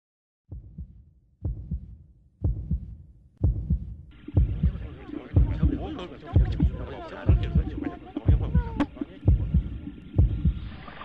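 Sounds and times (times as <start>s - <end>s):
heartbeat-like low thumps: 0.5s - 10.7s.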